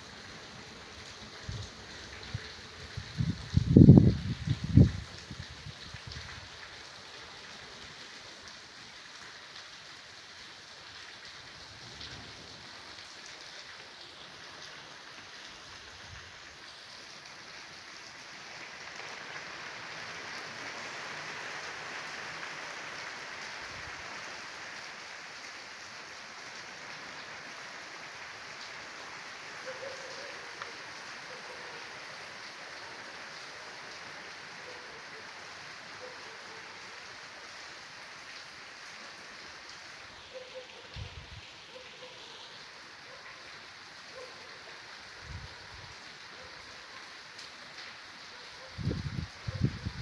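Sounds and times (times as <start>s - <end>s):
rain falling: 0.0s - 50.0s.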